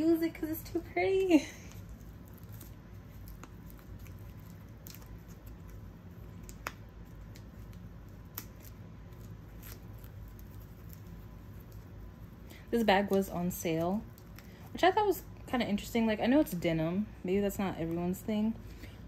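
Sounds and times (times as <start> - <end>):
plastic wrap crinkling: 0.0 - 16.7.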